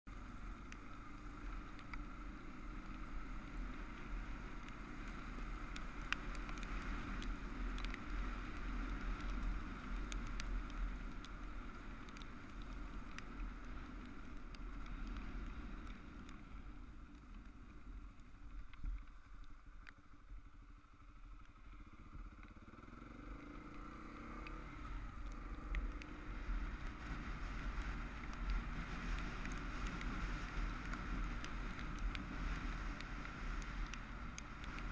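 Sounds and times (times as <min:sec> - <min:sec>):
gravel ticking under tyres: 0:00.0 - 0:34.9
motorcycle engine running: 0:00.1 - 0:34.9.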